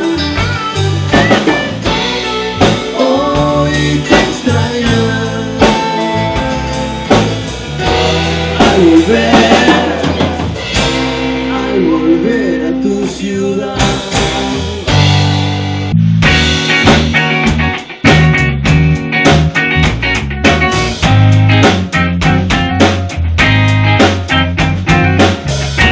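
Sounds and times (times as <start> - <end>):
drum kit beat: 0.0 - 25.9
rock band playing: 0.0 - 25.9.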